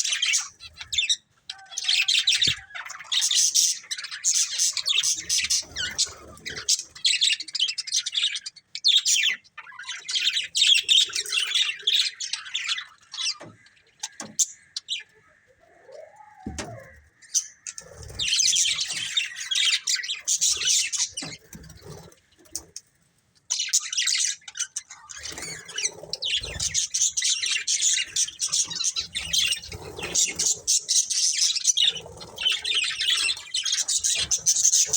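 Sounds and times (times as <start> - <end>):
budgerigars chirping: 0.0 - 15.2, 16.4 - 22.1, 23.5 - 34.9.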